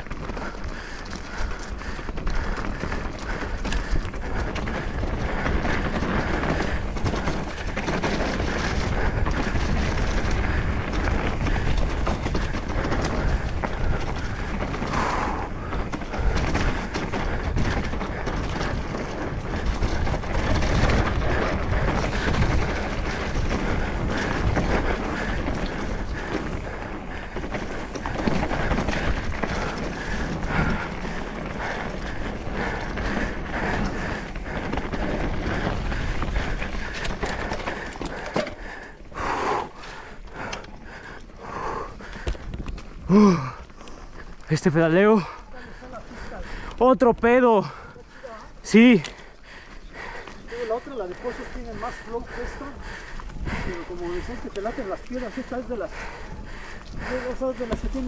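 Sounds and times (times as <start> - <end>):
tyres crunching over stones: 0.0 - 47.3, 48.1 - 58.0
wind over microphone: 0.0 - 58.0.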